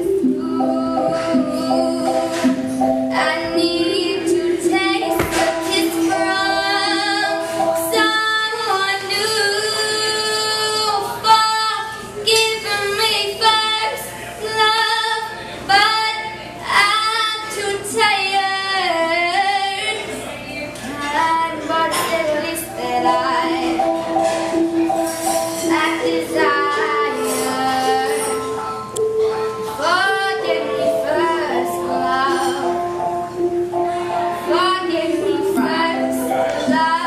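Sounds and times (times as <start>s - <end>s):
girl singing into a microphone: 0.0s - 20.2s, 20.8s - 37.0s.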